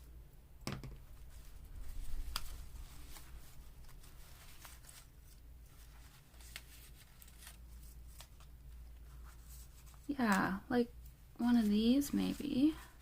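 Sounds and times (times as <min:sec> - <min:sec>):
paper rustling: 0:01.2 - 0:10.5, 0:11.4 - 0:13.0.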